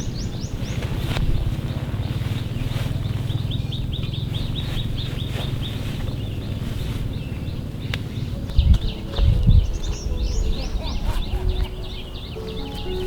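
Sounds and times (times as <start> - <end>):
small bird chirping: 0.0 - 13.0
steady low rumble: 0.0 - 13.0
dull low thumps: 0.8 - 13.0.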